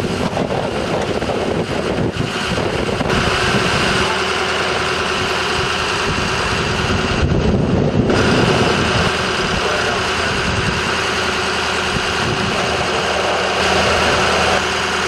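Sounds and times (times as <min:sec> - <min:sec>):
fire truck engine running: 0:00.0 - 0:15.0.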